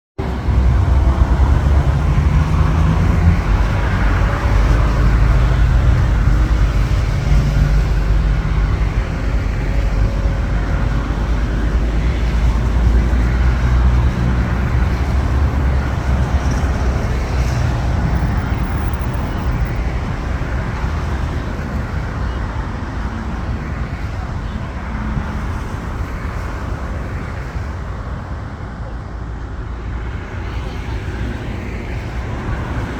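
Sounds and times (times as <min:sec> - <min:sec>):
jet engines at takeoff power: 0:00.2 - 0:32.9.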